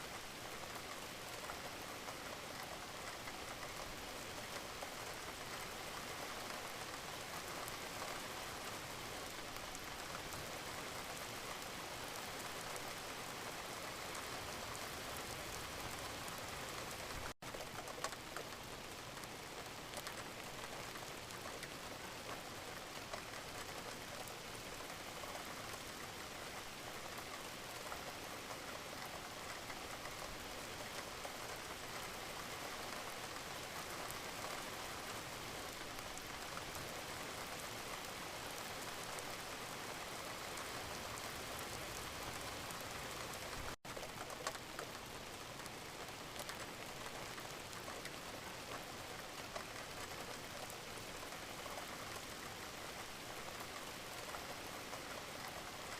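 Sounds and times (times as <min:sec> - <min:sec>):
gentle rain hiss: 0:00.0 - 0:55.9
raindrops ticking: 0:00.1 - 0:55.9.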